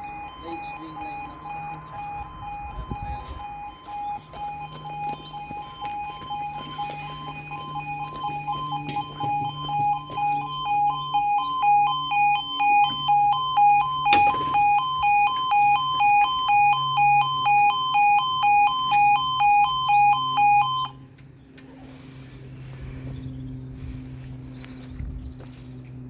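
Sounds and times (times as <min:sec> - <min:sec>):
two-tone crossing warning alarm: 0:00.0 - 0:21.2.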